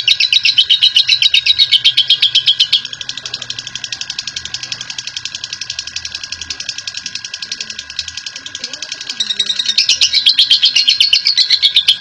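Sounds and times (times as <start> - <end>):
bird chattering trill: 0.0 - 12.0.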